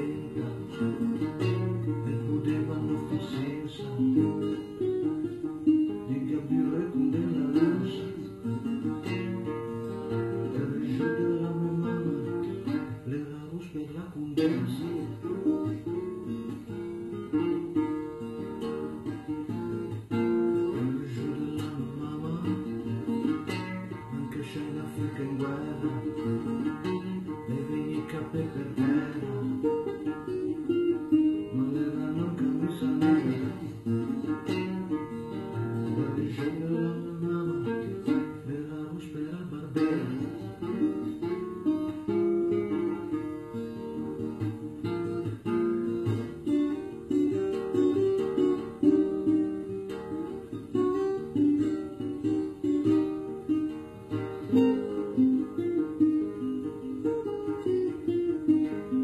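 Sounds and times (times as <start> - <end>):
acoustic guitar: 0.0 - 59.0
man singing: 0.0 - 59.0.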